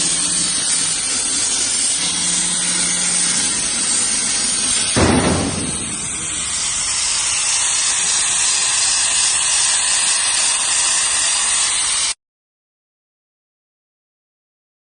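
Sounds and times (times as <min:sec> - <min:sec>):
plasma torch hissing: 0:00.0 - 0:12.2.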